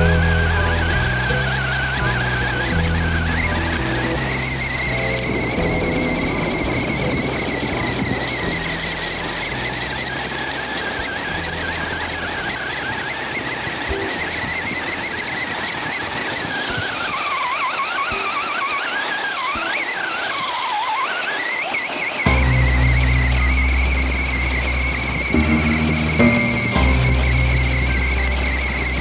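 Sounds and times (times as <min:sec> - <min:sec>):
electric rc truck motor whining: 0:00.0 - 0:25.9.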